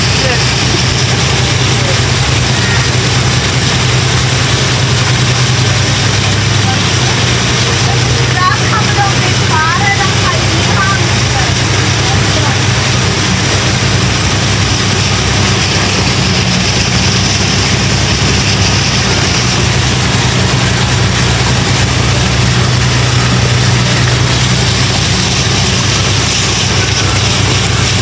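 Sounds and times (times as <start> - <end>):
boat engine droning: 0.0 - 28.0
wind and water rushing: 0.0 - 28.0.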